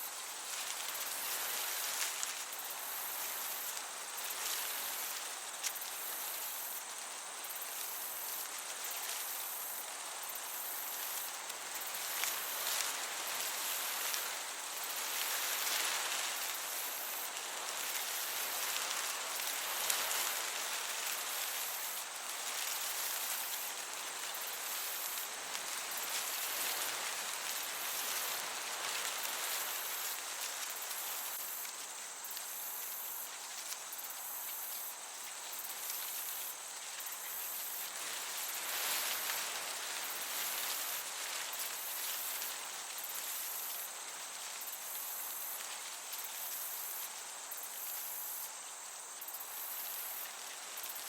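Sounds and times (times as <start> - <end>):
crickets chirping: 0.0 - 51.0
gentle breeze: 0.0 - 51.0.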